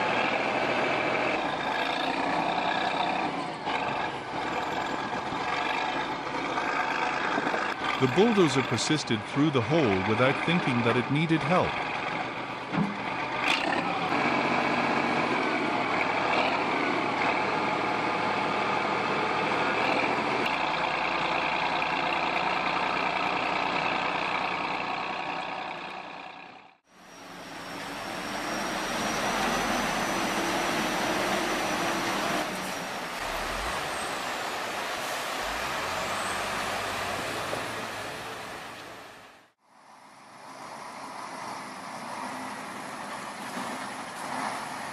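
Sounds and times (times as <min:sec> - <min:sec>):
bulldozer diesel engine: 0:00.0 - 0:44.9
heavy vehicle rumble: 0:00.0 - 0:44.9.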